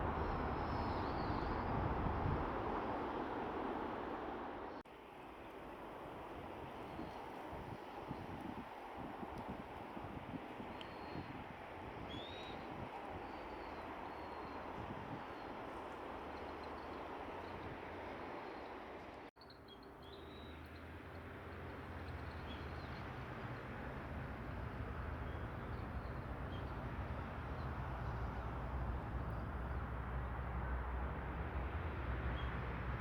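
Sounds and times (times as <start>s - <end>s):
steady outdoor noise: 0.0s - 33.0s.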